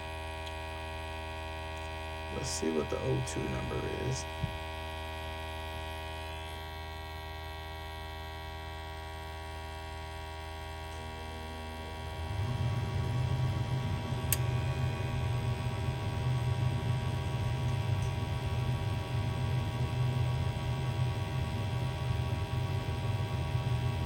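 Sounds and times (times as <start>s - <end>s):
furnace electrical hum: 0.0s - 24.0s
furnace fan rumble: 0.0s - 24.0s.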